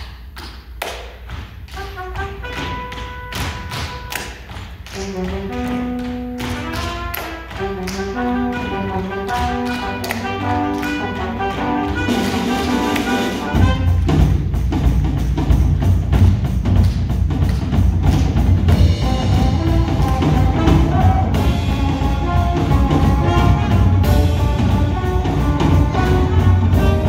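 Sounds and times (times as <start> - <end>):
music with drum beat and bass: 5.1 - 27.0.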